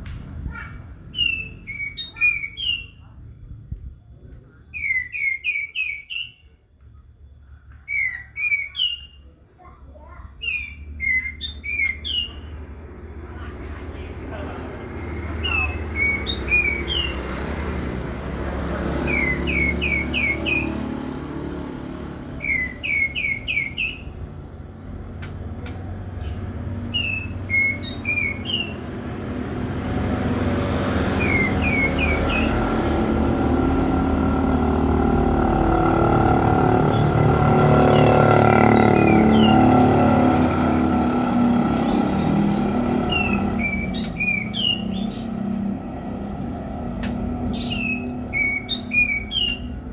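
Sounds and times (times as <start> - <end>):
road traffic rumble: 0.0 - 6.2, 6.8 - 49.9
songbird rising chirps: 1.0 - 3.1, 10.0 - 13.6, 14.2 - 49.9.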